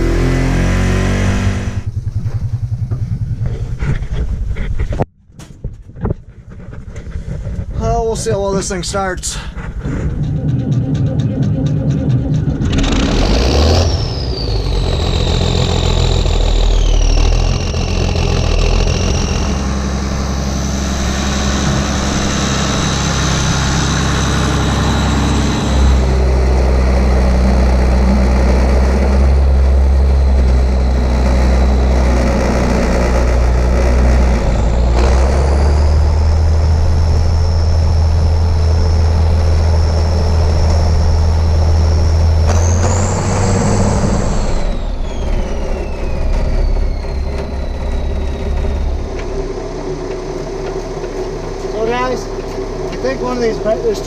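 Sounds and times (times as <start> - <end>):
high whine: 0.0 - 5.1, 6.9 - 54.0
tractor diesel engine running: 0.0 - 5.1, 6.2 - 54.0.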